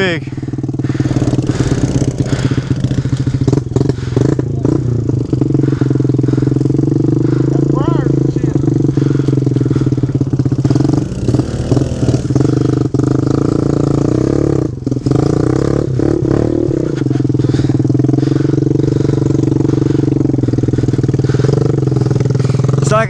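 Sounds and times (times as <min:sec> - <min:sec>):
pit bike engine revving: 0:00.0 - 0:23.0.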